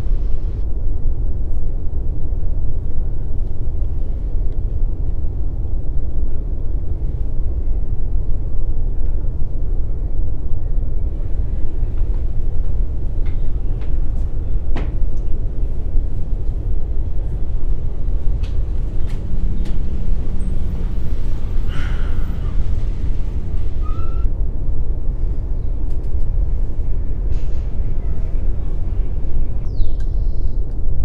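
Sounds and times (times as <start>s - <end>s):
steady low rumbling: 0.0s - 31.0s.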